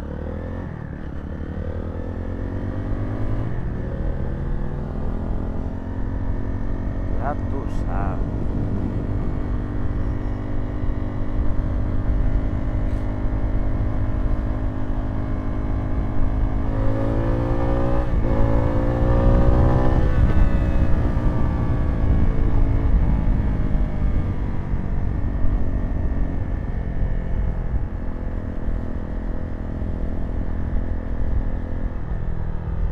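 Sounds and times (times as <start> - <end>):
motorcycle engine revving: 0.0 - 32.0
road rumble: 0.0 - 32.9
wind: 0.0 - 32.9.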